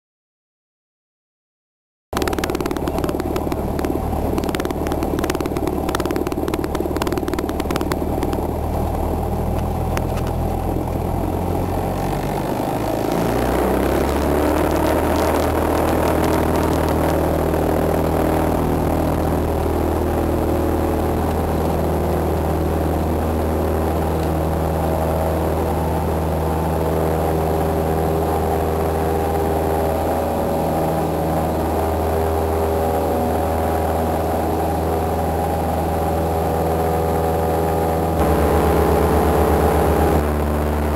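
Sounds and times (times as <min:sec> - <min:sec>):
propeller plane engine running: 0:02.2 - 0:40.9.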